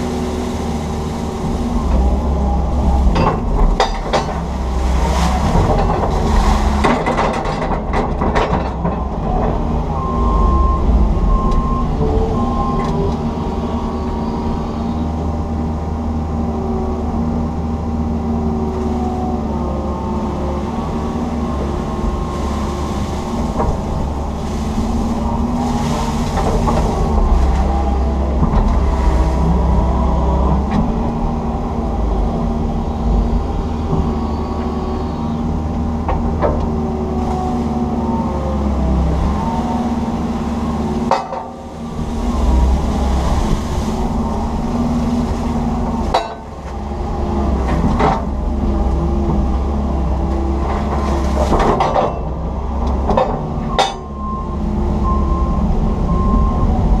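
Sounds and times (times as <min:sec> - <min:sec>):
excavator diesel engine running: 0:00.0 - 0:57.0
hydraulics working: 0:00.0 - 0:57.0.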